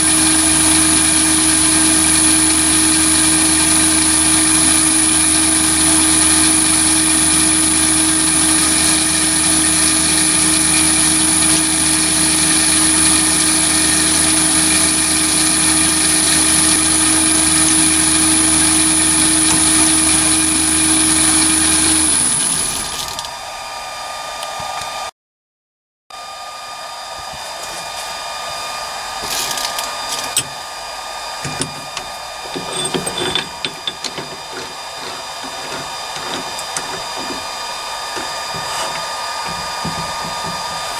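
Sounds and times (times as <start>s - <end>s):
lathe motor whining: 0.0s - 23.5s, 28.4s - 40.9s.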